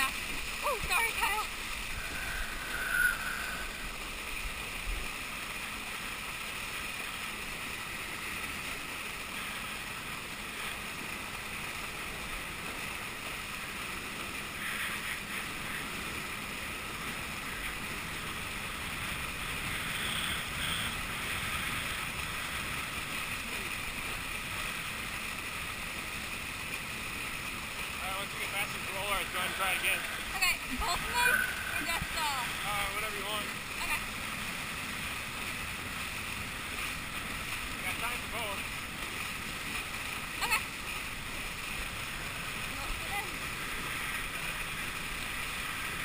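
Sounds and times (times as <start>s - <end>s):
boat engine running: 0.0s - 46.0s
spraying water: 0.0s - 46.0s.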